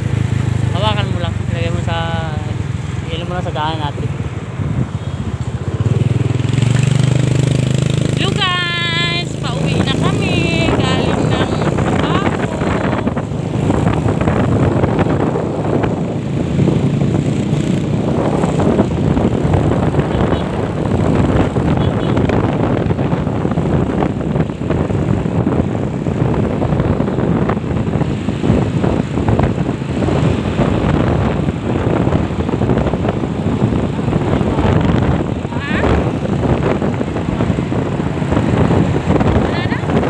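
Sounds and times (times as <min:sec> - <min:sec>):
motorcycle engine: 0:00.0 - 0:40.0
road noise: 0:00.0 - 0:40.0
wind buffeting microphone: 0:00.0 - 0:40.0.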